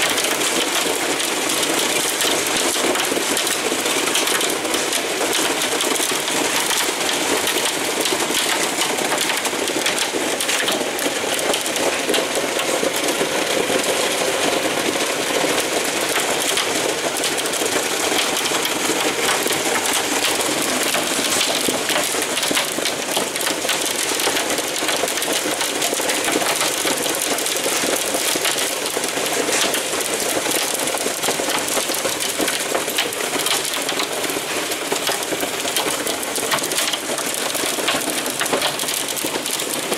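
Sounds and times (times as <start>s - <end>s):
hail and rain on corrugated roof: 0.0s - 39.9s.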